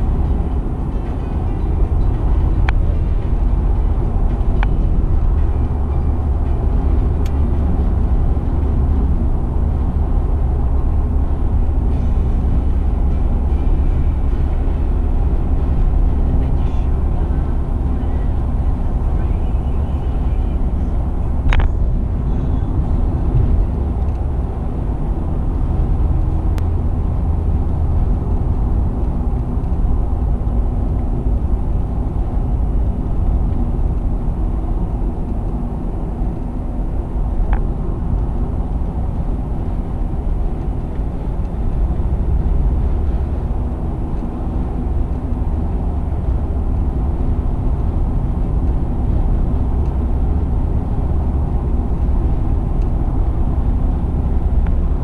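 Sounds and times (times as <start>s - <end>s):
car engine rumble: 0.0s - 55.0s
tyre road noise: 0.0s - 55.0s.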